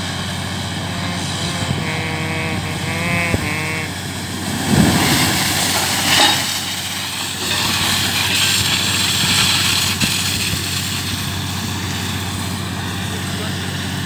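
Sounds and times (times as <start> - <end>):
drilling rig running: 0.0 - 14.0.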